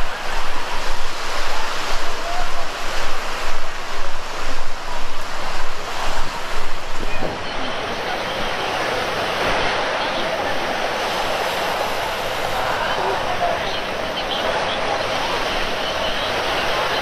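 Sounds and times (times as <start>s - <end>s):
faint voices: 0.0s - 17.0s
surf washing onto beach: 0.0s - 17.0s
wind buffeting microphone: 0.0s - 17.0s.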